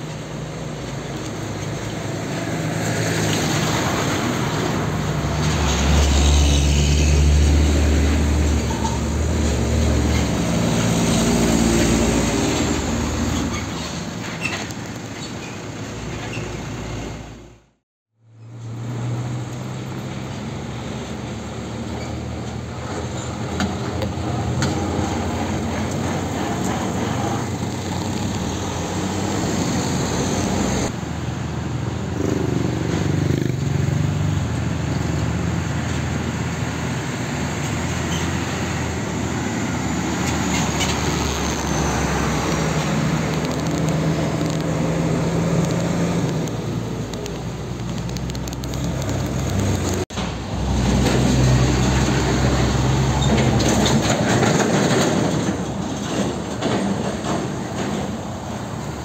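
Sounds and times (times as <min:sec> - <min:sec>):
diesel trucks passing: 0:00.0 - 0:59.0
tyre and road noise: 0:00.0 - 0:59.0.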